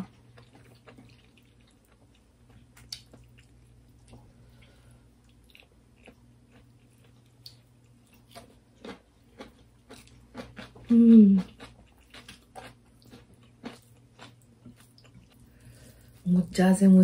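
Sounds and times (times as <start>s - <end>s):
chewing and mouth sounds: 0.0s - 16.2s
low steady hum: 0.0s - 17.0s.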